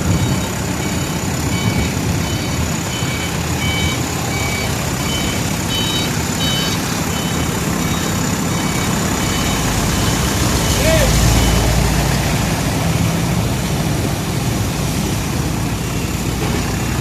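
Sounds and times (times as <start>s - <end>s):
reversing alarm beeping: 0.0s - 13.6s
heavy diesel machinery running: 0.0s - 17.0s.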